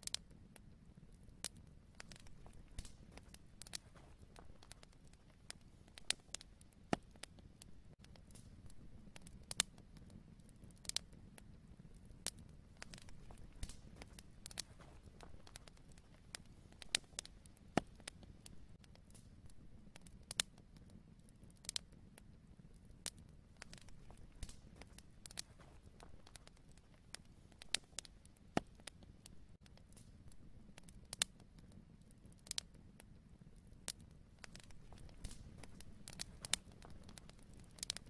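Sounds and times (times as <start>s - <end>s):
faint irregular crackling: 0.0s - 38.0s.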